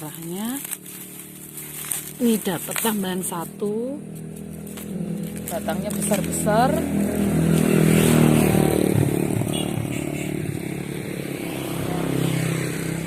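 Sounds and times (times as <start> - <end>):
engine approaching: 0.0 - 13.0
motorcycle engine passing: 0.1 - 13.0.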